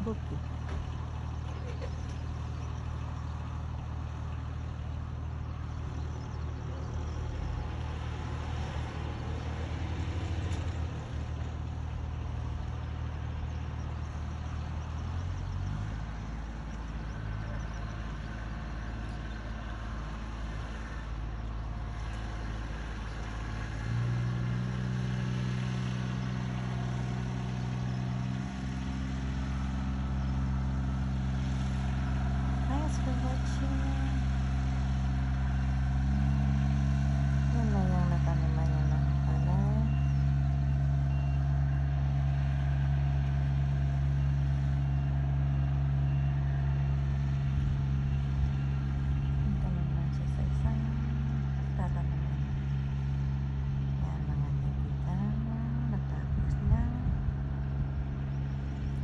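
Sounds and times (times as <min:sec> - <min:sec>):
rice transplanter engine running: 0:00.0 - 0:59.0
small truck engine: 0:00.0 - 0:59.0.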